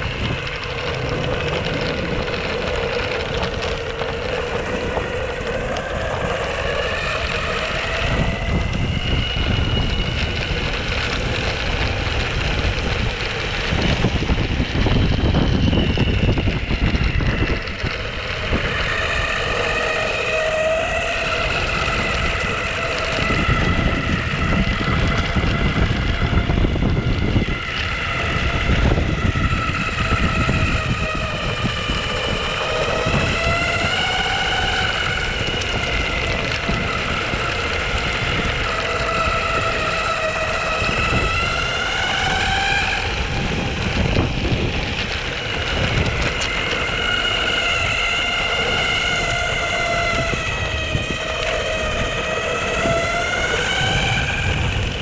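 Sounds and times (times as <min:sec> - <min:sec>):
electric motor whining: 0:00.0 - 0:55.0
steady low rumble: 0:00.0 - 0:55.0.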